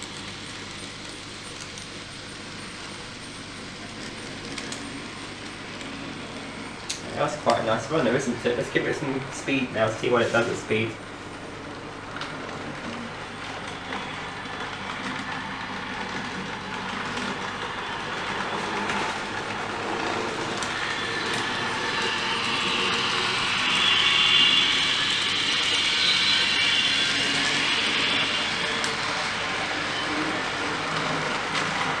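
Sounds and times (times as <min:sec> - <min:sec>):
model train electric traction sound: 0:00.0 - 0:10.9, 0:11.7 - 0:32.0
high-pitched whine: 0:00.0 - 0:32.0
model train wheels on track: 0:00.0 - 0:32.0.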